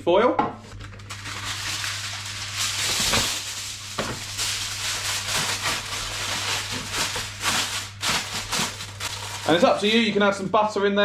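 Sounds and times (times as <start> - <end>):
kitchen foil crinkling: 0.8 - 10.1.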